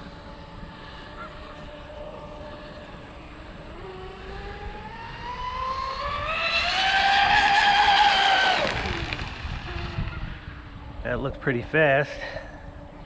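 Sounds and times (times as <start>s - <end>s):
speedboat motor whine: 0.0s - 13.0s.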